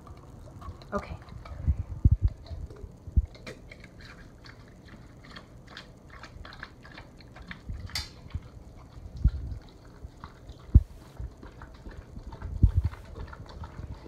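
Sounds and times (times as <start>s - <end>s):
dog lapping from a bowl: 0.0s - 14.0s.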